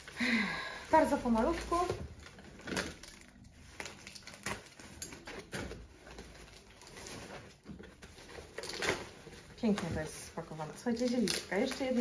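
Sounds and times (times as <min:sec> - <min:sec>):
foam and paper packing crinkling: 0:00.0 - 0:12.0.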